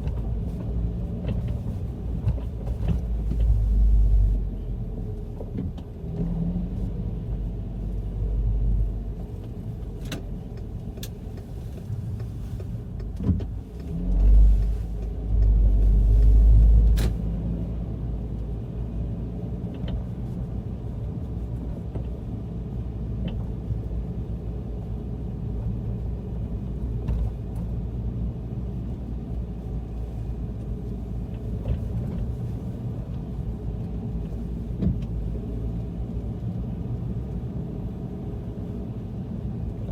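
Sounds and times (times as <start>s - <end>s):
car driving with low rumble: 0.0s - 39.9s.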